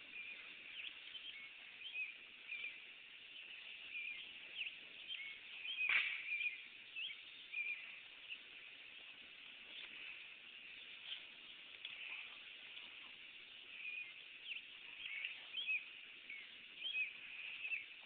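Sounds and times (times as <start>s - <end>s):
birds chirping: 0.0s - 18.0s
faint outdoor hiss: 0.0s - 18.0s.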